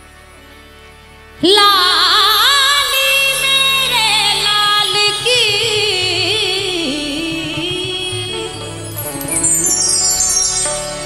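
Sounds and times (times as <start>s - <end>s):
light rhythmic pulse: 1.4s - 11.0s.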